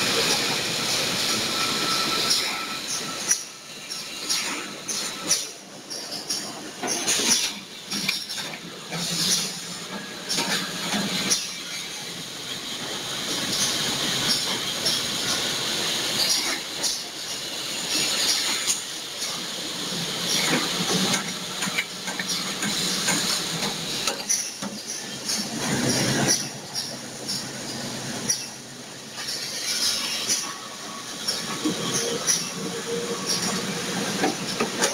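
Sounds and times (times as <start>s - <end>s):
machine whirring with hiss: 0.0s - 34.9s.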